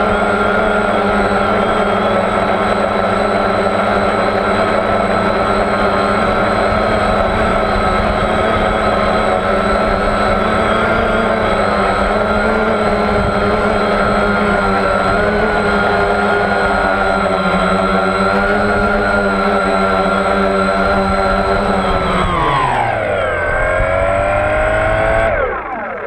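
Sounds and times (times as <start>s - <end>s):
electric motors and propellers whining: 0.0s - 26.0s.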